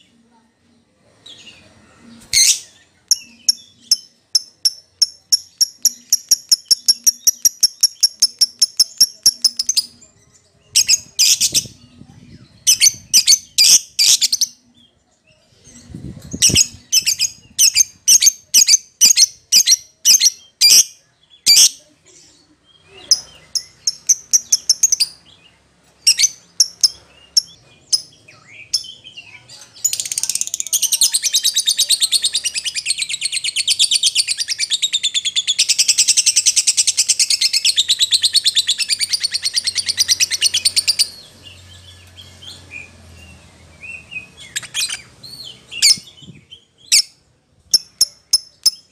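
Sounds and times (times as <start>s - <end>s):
lovebird chirping: 1.3s - 48.9s.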